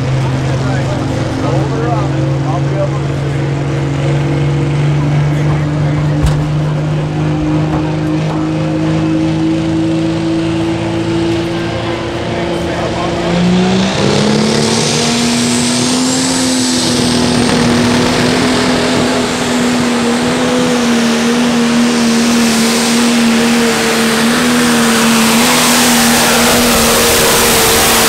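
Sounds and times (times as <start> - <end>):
diesel tractor engine at full power: 0.0 - 28.0.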